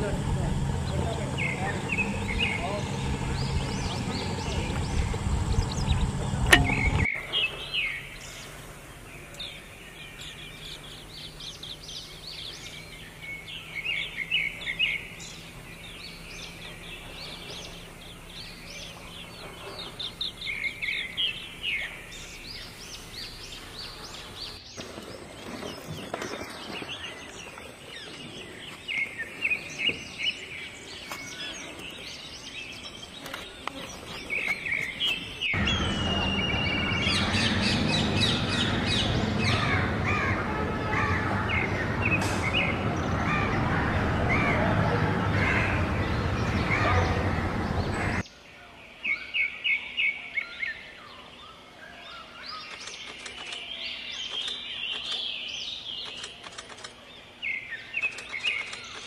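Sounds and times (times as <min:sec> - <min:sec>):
birds chirping: 0:00.0 - 0:59.0
outdoor background noise: 0:00.0 - 0:59.0.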